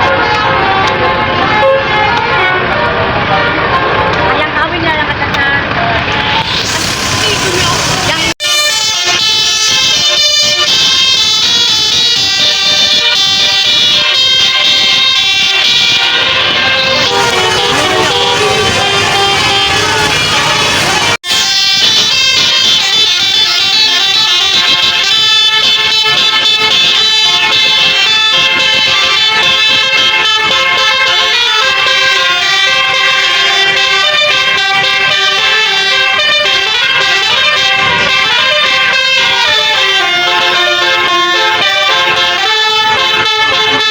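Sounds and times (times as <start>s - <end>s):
musical bus horn playing a tune: 0.0s - 4.6s, 6.0s - 43.9s.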